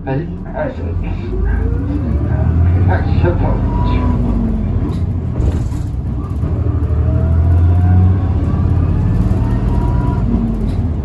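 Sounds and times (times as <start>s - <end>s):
bus drivetrain rumble: 0.0s - 11.0s.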